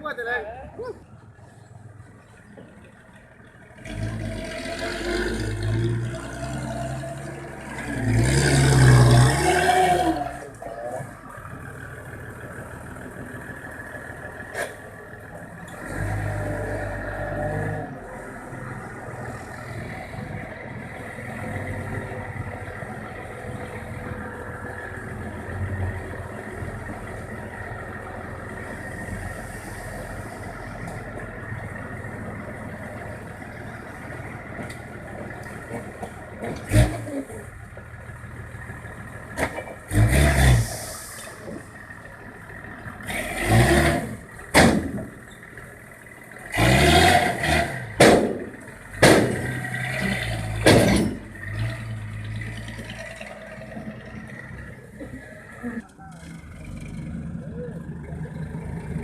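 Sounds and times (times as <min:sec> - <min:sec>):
truck engine revving: 0:02.1 - 0:59.0.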